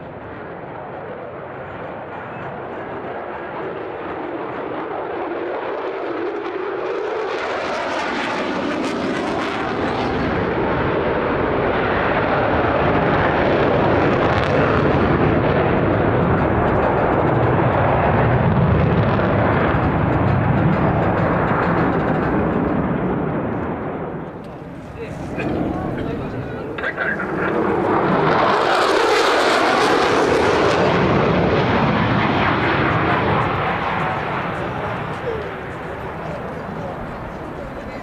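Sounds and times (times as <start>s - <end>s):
fighter jet engine noise: 0.0s - 38.0s.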